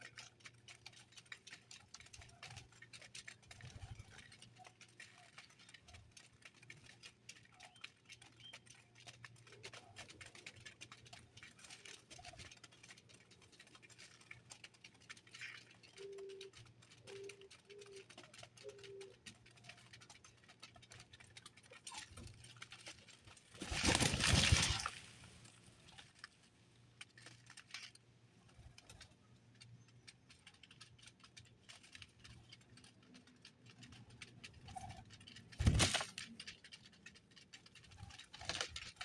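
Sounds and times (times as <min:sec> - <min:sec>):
birds pecking and hopping: 0:00.0 - 0:39.0.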